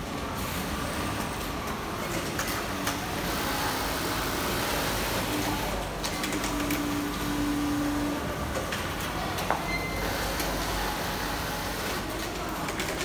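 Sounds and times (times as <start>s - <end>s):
industrial sewing machines running: 0.0s - 13.0s.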